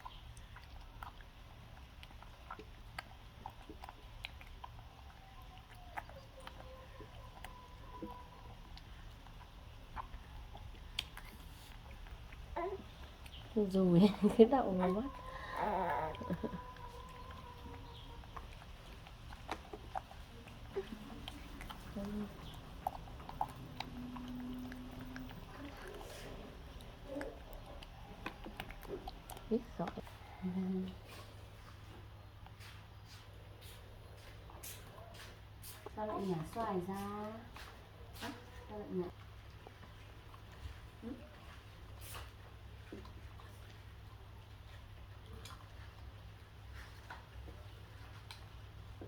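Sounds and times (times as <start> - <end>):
monkey chewing soft food: 0.0 - 49.0.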